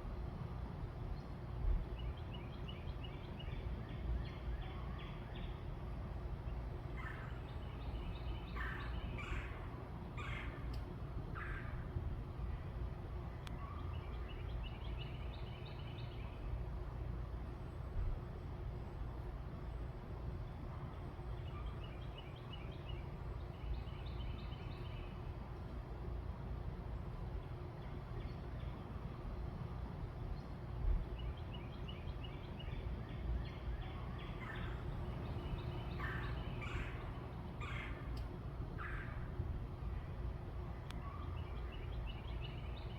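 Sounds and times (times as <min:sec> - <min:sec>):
low background rumble: 0:00.0 - 0:42.9.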